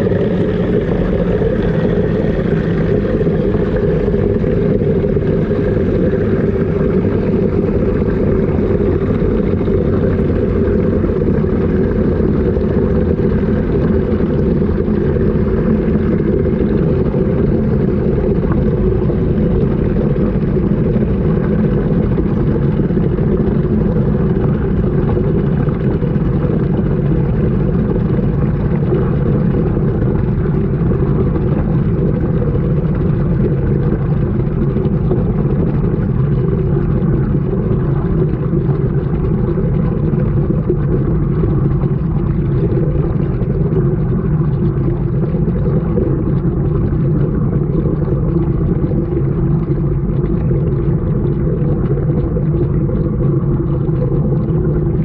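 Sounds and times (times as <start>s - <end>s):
washing machine rumbling: 0.0s - 55.0s.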